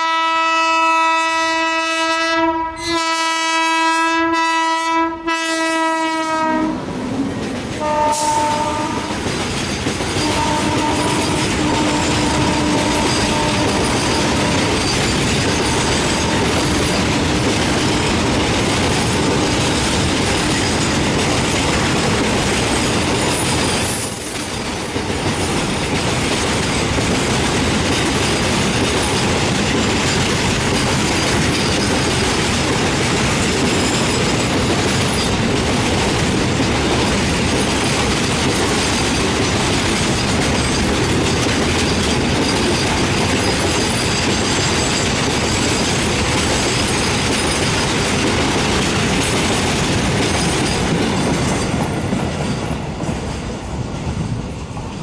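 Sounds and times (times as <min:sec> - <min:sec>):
train wheels clattering over rails: 0:04.4 - 0:55.0.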